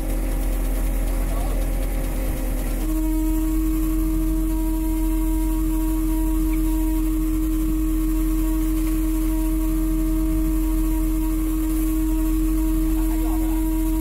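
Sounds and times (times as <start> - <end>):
boat engine drone: 0.0 - 14.0
steady machinery hum: 0.0 - 14.0.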